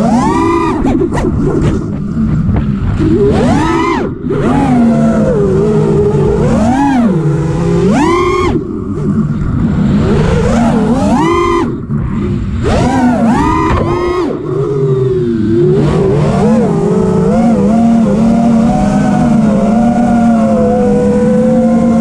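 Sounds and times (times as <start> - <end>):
drone motors whining: 0.0 - 22.0
rush of wind: 0.0 - 22.0.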